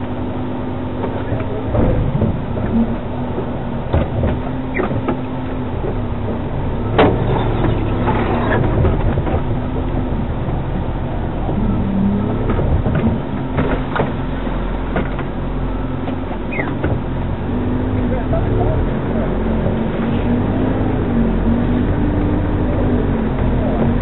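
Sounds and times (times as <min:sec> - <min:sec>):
engine running at low revs: 0:00.0 - 0:24.0
body and suspension rattles: 0:00.9 - 0:20.9.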